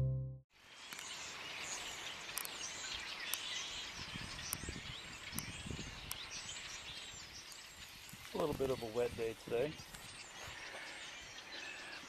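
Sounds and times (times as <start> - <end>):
birds chirping: 0.8 - 12.0.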